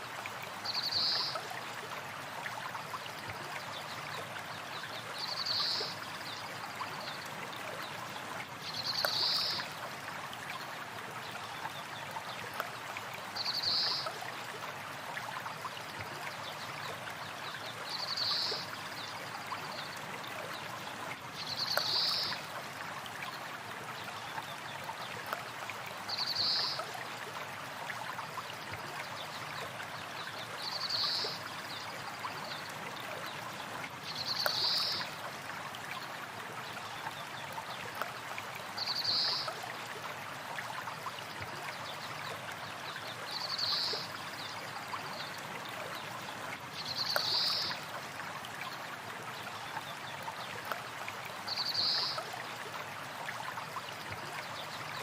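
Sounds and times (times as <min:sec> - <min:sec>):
stream of water flowing: 0:00.0 - 0:55.0.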